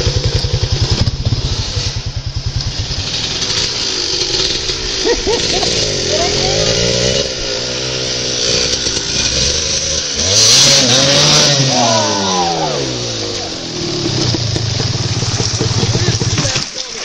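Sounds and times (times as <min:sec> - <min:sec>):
dirt bike engine revving: 0:00.0 - 0:17.0
loud hissing rush: 0:00.0 - 0:17.0.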